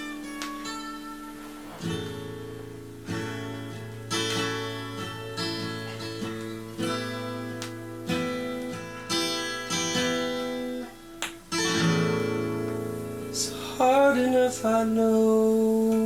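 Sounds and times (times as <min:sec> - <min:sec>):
acoustic guitar picked and strummed: 0:00.0 - 0:16.0.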